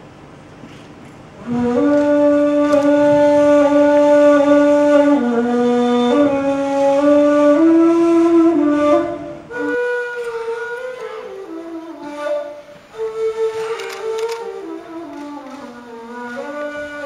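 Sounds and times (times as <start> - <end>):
flute playing slow melody: 1.4 - 17.0.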